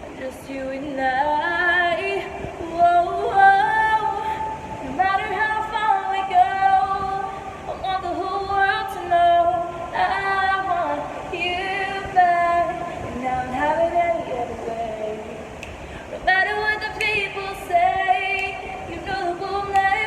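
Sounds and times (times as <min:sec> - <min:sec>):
young woman singing pop melody: 0:00.0 - 0:20.0.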